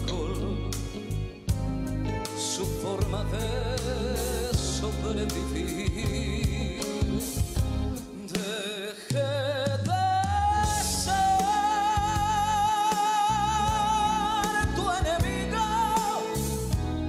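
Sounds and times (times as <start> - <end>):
man singing with vibrato: 0.0 - 1.2, 2.3 - 17.0
band accompaniment: 0.0 - 17.0.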